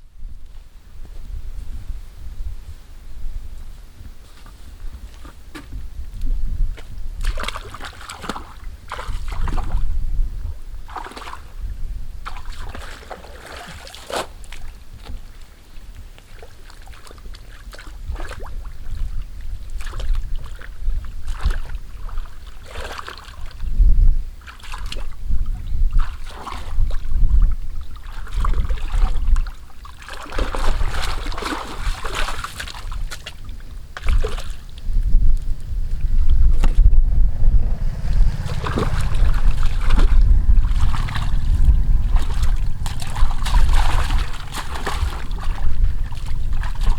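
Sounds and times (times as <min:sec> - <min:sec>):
wind buffeting microphone: 0:00.0 - 0:15.4, 0:17.9 - 0:46.9
water splashing and sloshing: 0:04.2 - 0:23.7, 0:24.3 - 0:46.9.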